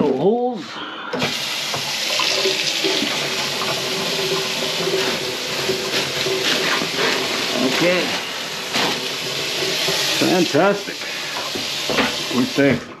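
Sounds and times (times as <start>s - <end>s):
tap running into metal sink: 1.2s - 8.0s, 8.7s - 12.9s.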